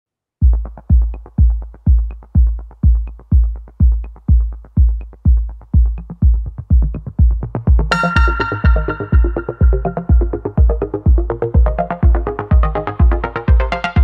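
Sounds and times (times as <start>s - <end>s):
electronic music with kick drum: 0.4s - 14.0s.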